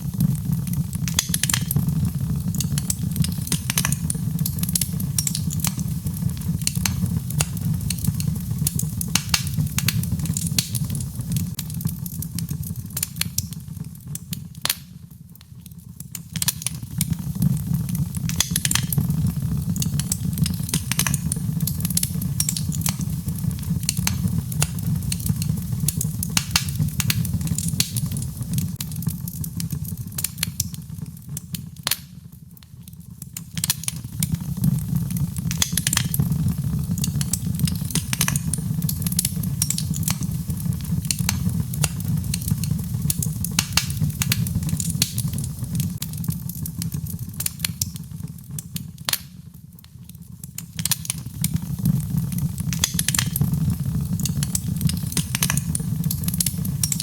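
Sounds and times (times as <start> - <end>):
low fire rumble: 0.0 - 49.1, 49.8 - 57.0
logs crackling and popping: 0.0 - 57.0.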